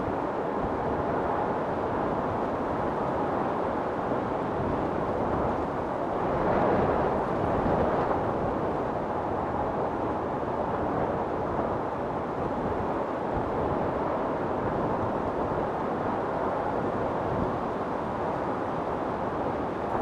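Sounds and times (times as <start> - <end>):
strong storm wind blowing: 0.0 - 20.0.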